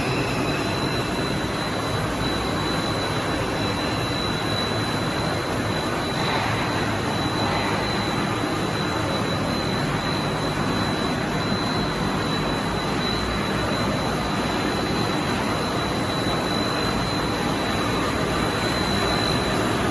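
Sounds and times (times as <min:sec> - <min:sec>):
high-pitched machine whine: 0:00.0 - 0:19.9
production line machinery running: 0:00.0 - 0:19.9.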